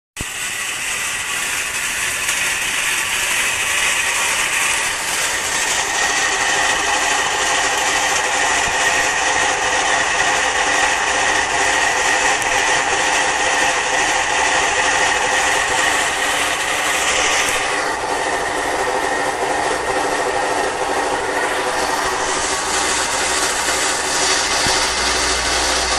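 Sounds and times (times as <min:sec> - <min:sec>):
high whine over scraping rasp: 0:00.2 - 0:25.9
washing machine motor grinding and squealing: 0:00.2 - 0:25.9.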